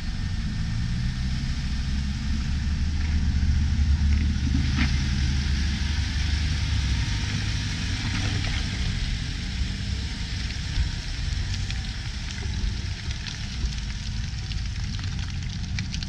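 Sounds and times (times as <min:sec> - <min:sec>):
engine rumbling at low revs: 0:00.0 - 0:16.0.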